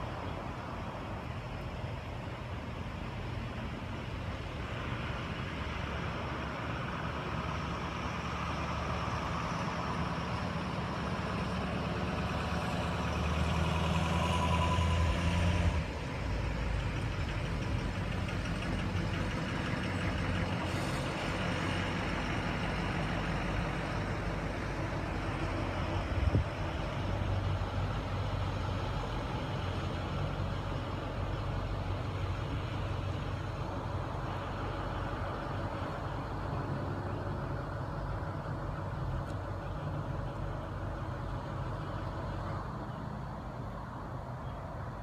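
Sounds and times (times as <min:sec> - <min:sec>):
vehicle engine rumbling: 0:00.0 - 0:45.0.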